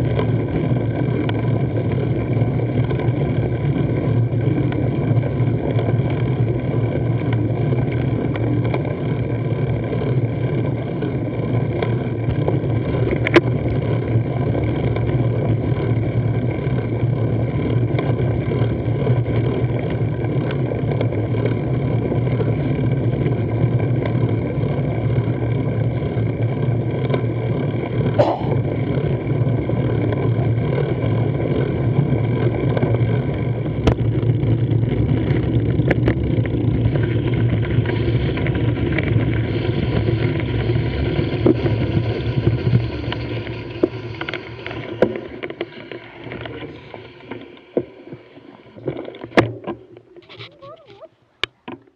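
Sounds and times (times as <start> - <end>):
road vibration rumble: 0.0 - 51.7.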